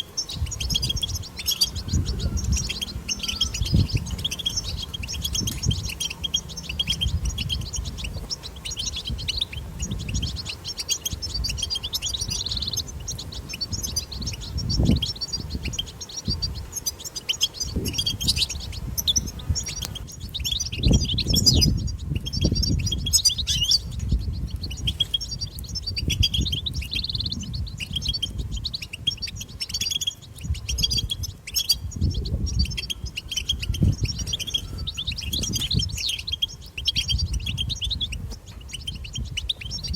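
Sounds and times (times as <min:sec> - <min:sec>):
finch twittering song: 0:00.0 - 0:39.9
low rumbles: 0:00.0 - 0:39.9.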